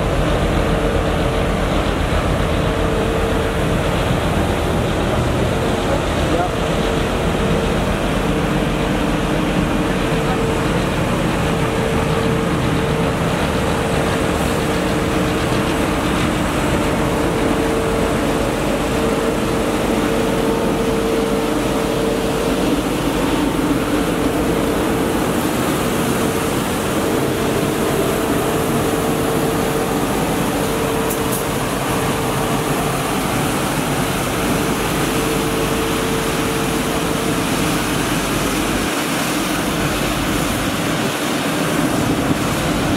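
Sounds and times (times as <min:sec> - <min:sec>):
street sweeper rushing and whining: 0:00.0 - 0:42.9.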